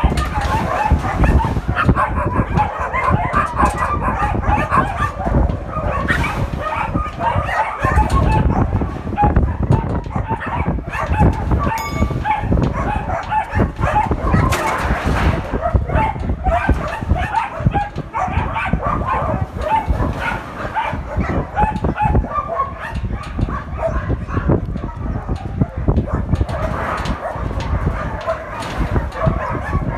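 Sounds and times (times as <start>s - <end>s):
many dogs barking and yelping: 0.0s - 29.9s.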